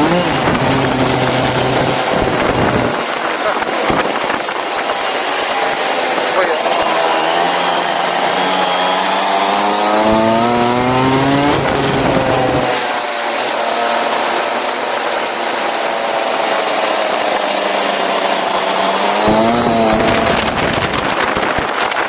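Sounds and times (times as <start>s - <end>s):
go-kart engine revving: 0.0s - 22.0s
noisy rush: 0.0s - 22.0s.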